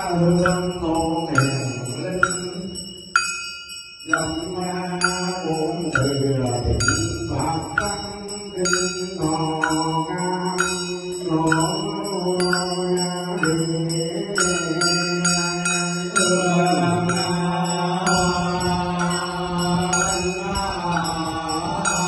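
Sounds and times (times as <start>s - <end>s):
person chanting: 0.0s - 2.9s, 4.1s - 22.0s
short ringing percussion strikes: 0.0s - 22.0s.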